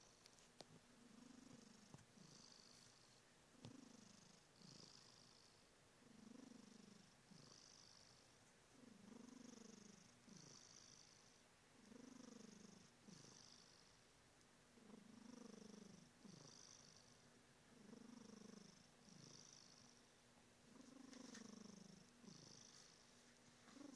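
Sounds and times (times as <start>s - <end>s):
cat snoring and purring: 0.0s - 0.3s, 0.9s - 14.1s, 14.7s - 23.0s, 23.7s - 23.9s.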